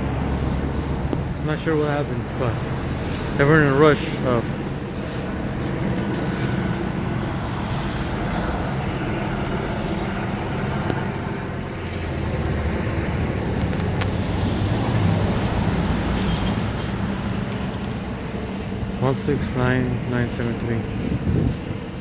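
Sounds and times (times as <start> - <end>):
traffic engine drone: 0.0 - 22.0.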